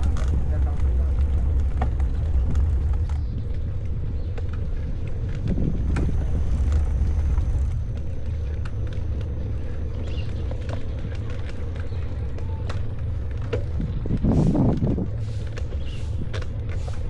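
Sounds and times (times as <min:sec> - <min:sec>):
wind and road rumble on microphone: 0:00.0 - 0:17.0.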